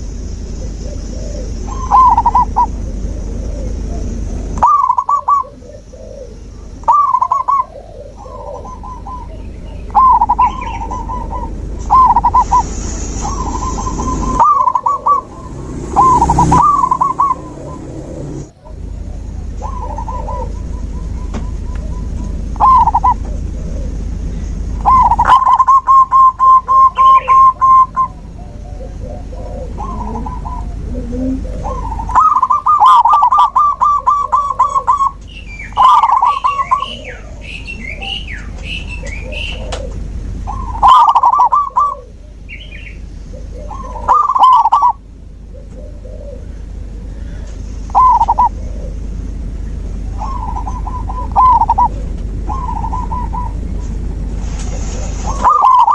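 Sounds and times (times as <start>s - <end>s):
doves cooing in staccato bursts: 0.5s - 42.6s, 43.3s - 55.9s.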